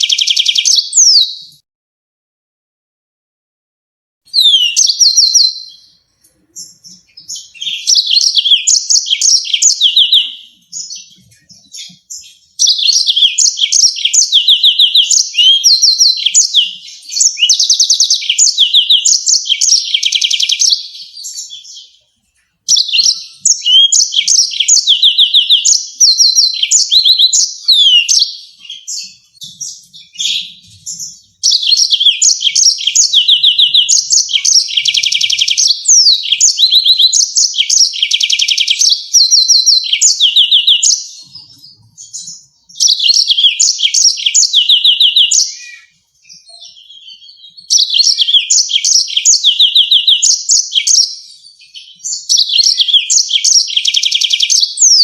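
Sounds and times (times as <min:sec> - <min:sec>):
canary singing high trills: 0:00.0 - 0:01.6, 0:04.3 - 0:55.0.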